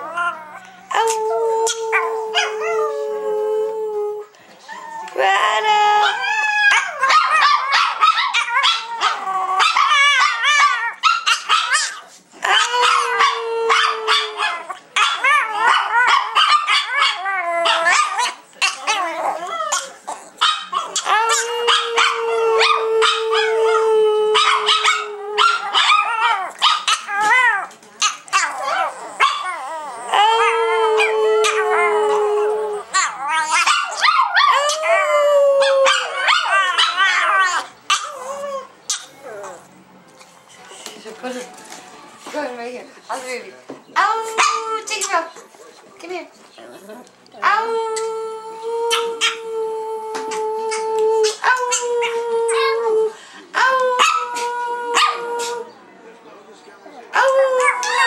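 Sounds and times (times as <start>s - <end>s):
small dogs howling: 0.0s - 39.7s, 44.0s - 45.1s, 46.6s - 55.7s, 57.1s - 58.0s.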